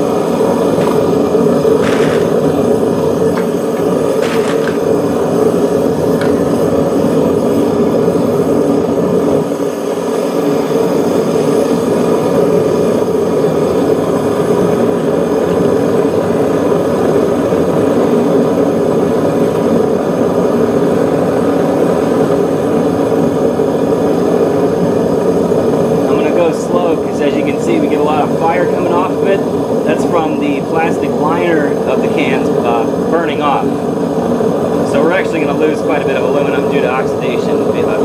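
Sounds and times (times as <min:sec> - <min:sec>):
furnace burner flame rushing: 0:00.0 - 0:38.0.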